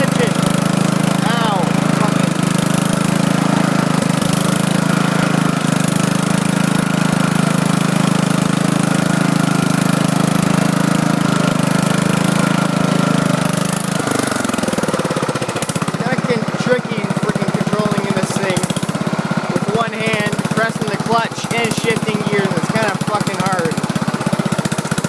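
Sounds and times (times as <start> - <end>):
lawn tractor engine running: 0.0 - 25.0.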